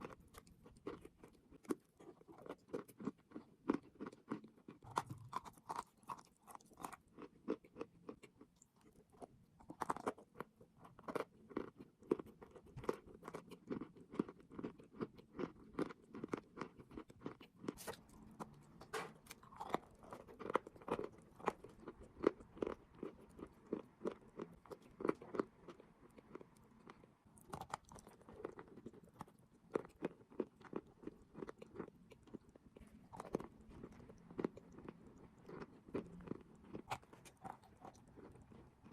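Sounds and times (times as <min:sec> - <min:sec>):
chewing crunchy chalk: 0:00.0 - 0:38.9.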